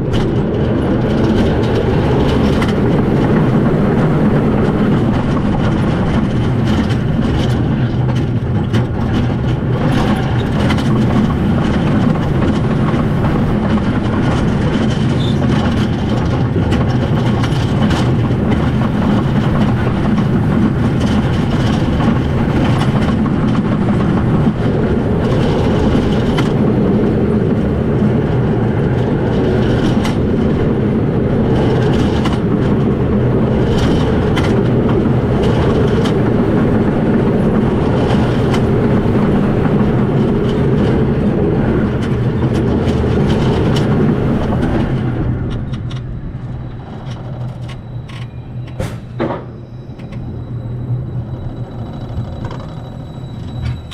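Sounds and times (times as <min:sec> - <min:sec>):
roller coaster rumbling: 0:00.0 - 0:53.9
wheels clattering on track: 0:00.0 - 0:53.9.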